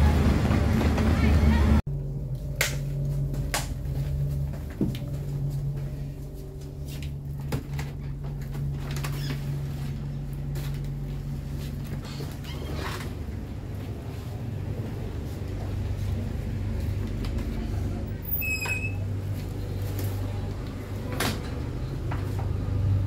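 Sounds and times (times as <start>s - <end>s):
train coach hum: 0.0s - 23.0s.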